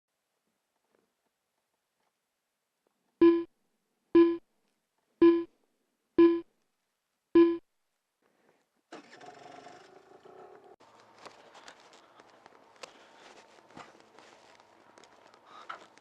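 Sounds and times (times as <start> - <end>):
faint outdoor noise: 0.1 - 16.0.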